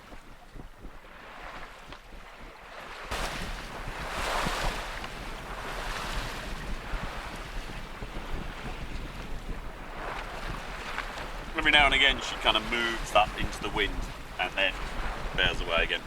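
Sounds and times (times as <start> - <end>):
sea water rushing and breaking: 0.0 - 16.0
wind buffeting microphone: 0.0 - 16.0.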